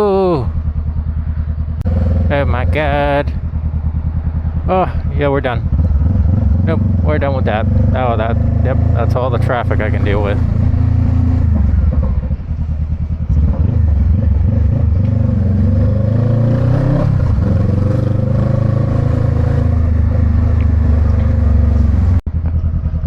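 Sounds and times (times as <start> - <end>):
motorcycle engine pulling away: 0.6 - 23.0.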